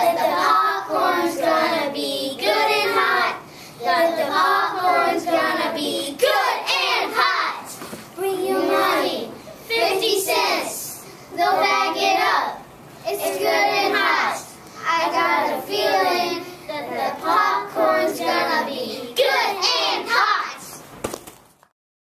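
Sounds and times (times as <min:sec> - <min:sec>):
young children singing: 0:00.0 - 0:20.8.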